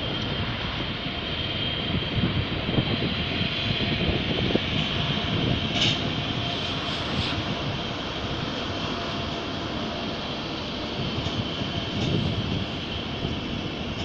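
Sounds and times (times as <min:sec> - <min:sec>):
train rushing rumble: 0:00.0 - 0:14.0.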